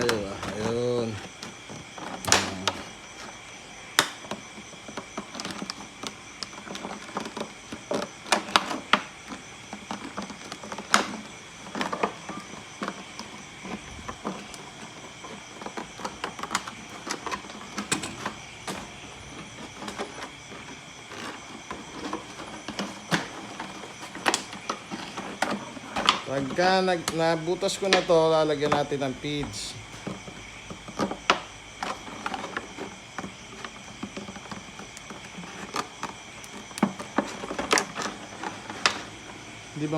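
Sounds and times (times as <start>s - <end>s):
plastic bottle crackling: 0.0s - 39.9s.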